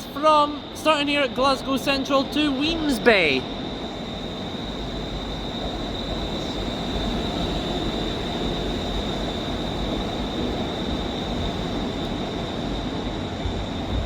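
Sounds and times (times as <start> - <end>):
electric train pulling out: 0.0 - 14.0.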